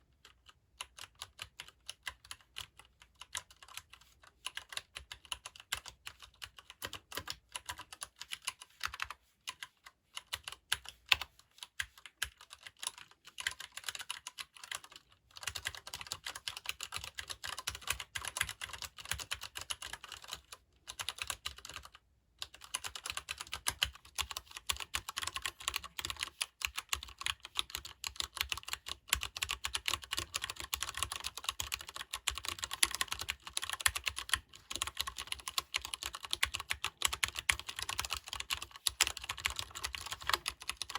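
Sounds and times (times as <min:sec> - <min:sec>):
mechanical keyboard typing: 0:00.2 - 0:40.9.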